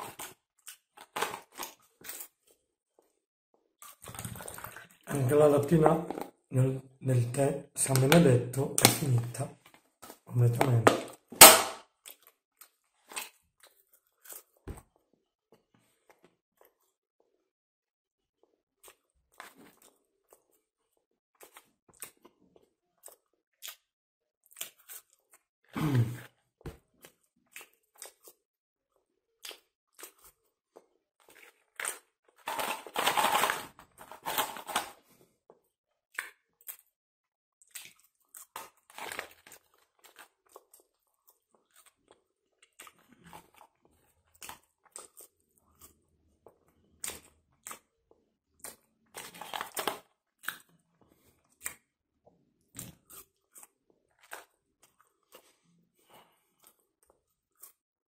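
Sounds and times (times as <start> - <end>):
person chewing crunchy food: 0.0 - 6.5, 7.9 - 17.5, 18.4 - 37.0, 37.6 - 57.8.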